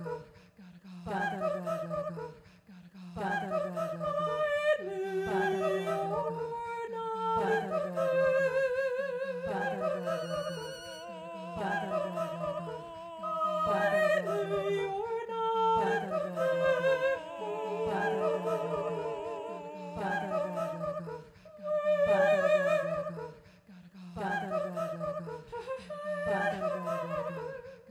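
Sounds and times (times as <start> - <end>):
woman's layered wordless singing: 0.0 - 27.9.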